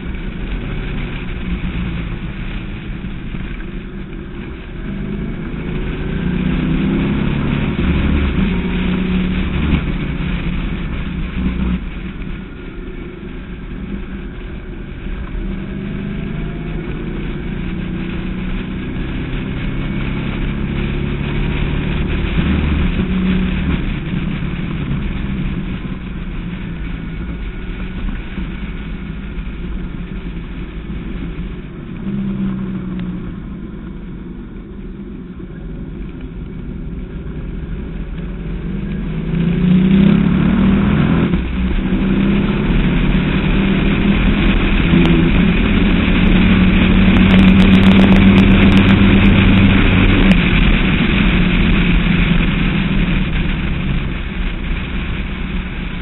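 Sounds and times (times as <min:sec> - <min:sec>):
car engine at speed: 0:00.0 - 0:56.0.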